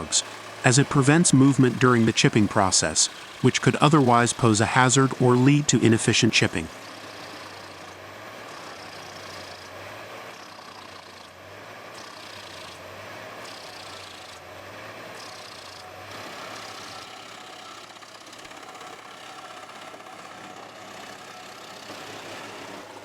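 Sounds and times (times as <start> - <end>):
wood chipper engine humming: 0.0 - 23.0.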